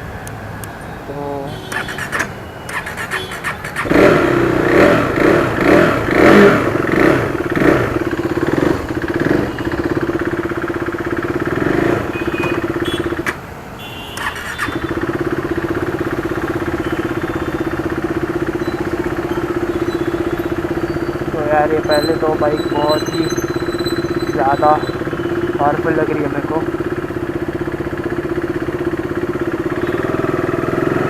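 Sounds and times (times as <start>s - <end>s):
motorcycle engine revving: 1.2s - 31.0s.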